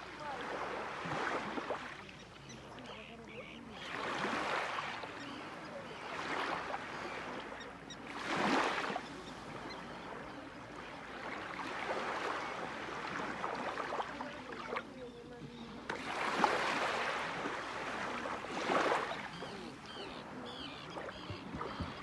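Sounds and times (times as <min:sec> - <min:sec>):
small waves washing onto shore: 0:00.0 - 0:22.0.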